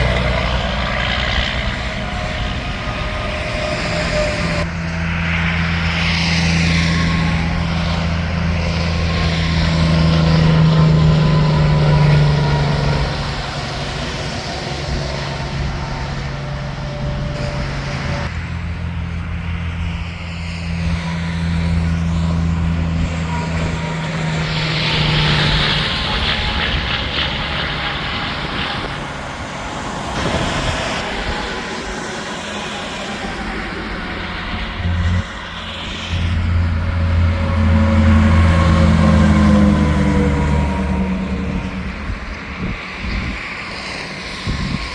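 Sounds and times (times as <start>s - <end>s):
highway traffic passing: 0.0s - 44.9s.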